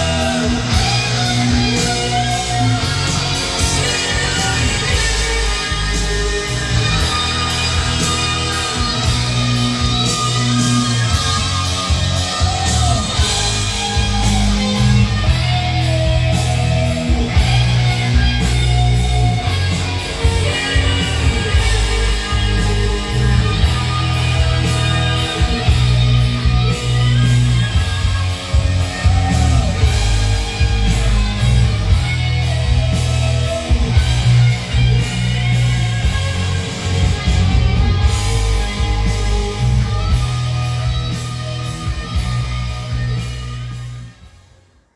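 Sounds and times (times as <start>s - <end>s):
loud rock music: 0.0s - 44.8s.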